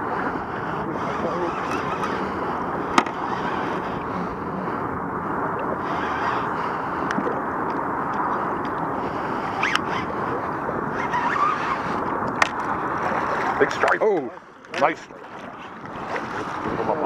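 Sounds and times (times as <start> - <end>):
wind noise on microphone: 0.0 - 14.1, 14.8 - 17.0.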